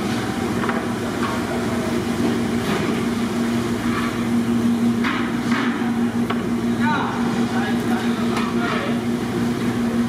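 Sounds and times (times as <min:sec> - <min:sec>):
mechanical drone with low hum: 0:00.0 - 0:10.0.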